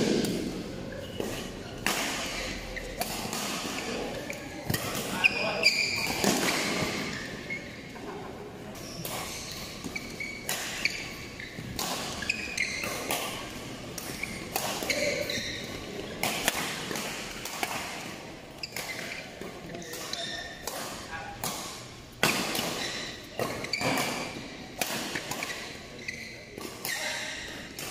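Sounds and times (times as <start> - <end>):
rackets hitting shuttlecock: 0.0 - 7.9, 8.8 - 27.9
echoing hall ambience: 0.0 - 27.9
shoes squeaking on court: 0.7 - 8.0, 8.6 - 27.9.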